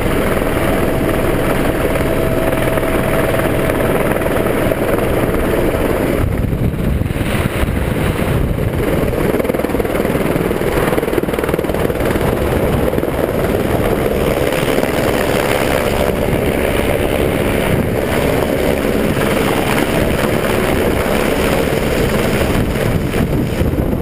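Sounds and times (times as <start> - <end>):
helicopter rotor and engine: 0.0 - 24.0
wind buffeting microphone: 0.0 - 24.0.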